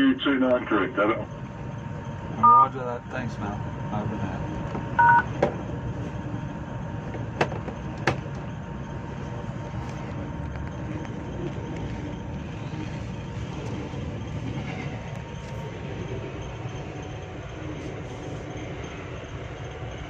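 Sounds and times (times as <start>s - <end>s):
diesel train rumble: 0.0s - 20.0s.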